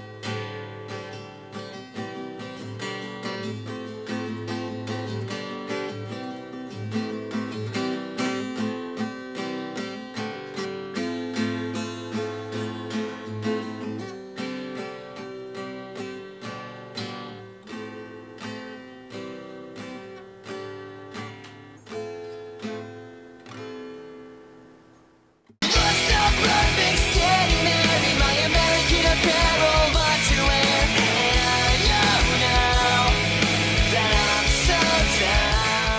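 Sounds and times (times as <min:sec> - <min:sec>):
acoustic guitar strumming: 0:00.0 - 0:24.9, 0:25.6 - 0:35.9.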